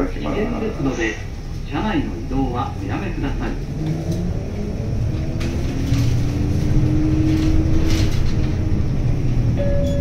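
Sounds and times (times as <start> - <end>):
bus engine low rumble: 0.0 - 10.0.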